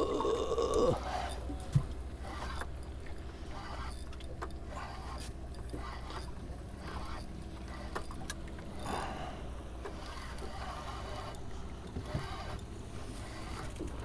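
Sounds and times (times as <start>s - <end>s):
fishing gear clicking and rattling: 0.0s - 14.0s
steady low rumble: 0.0s - 14.0s.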